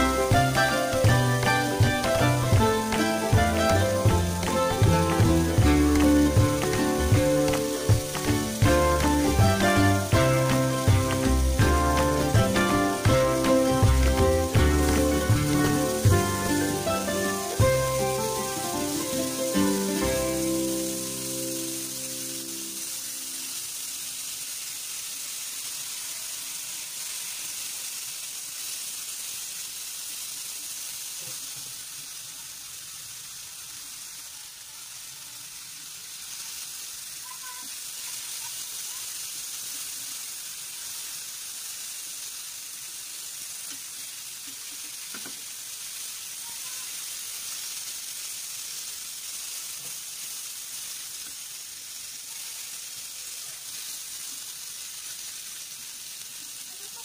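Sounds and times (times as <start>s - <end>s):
sausages sizzling in oil: 0.0s - 57.0s.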